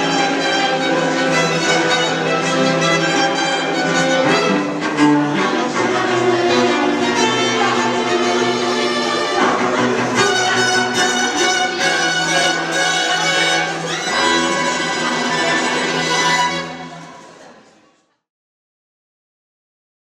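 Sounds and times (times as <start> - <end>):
string quartet playing: 0.0 - 17.5.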